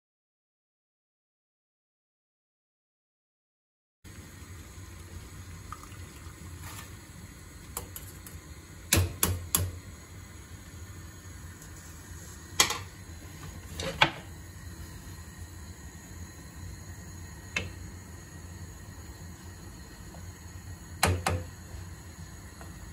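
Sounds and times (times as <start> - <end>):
water boiling in saucepan: 4.1 - 22.9.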